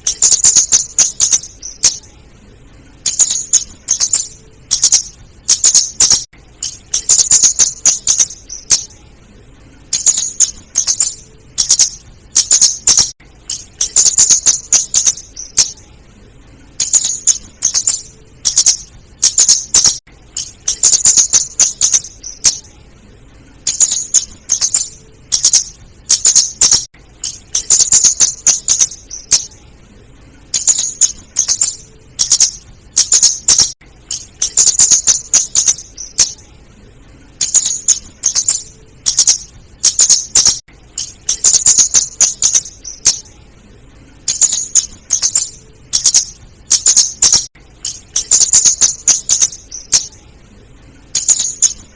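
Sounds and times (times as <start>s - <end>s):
bird ticking chip calls: 0.0s - 2.1s, 3.0s - 9.0s, 9.9s - 15.8s, 16.8s - 22.7s, 23.6s - 29.6s, 30.5s - 36.4s, 37.4s - 43.3s, 44.3s - 50.2s, 51.1s - 51.9s.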